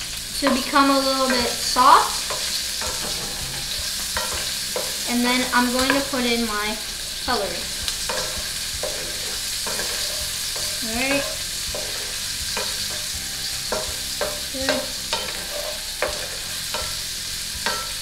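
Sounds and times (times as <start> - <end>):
carrots sizzling in a frying pan: 0.0 - 18.0
spatula scraping and tapping pan: 0.4 - 18.0.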